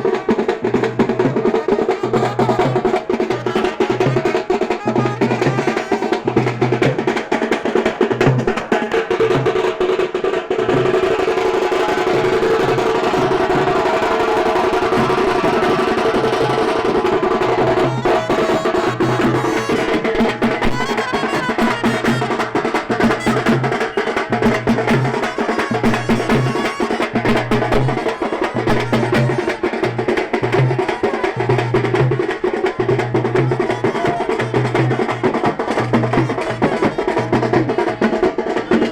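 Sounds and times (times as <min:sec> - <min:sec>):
drums and percussion beat: 0:00.0 - 0:38.9.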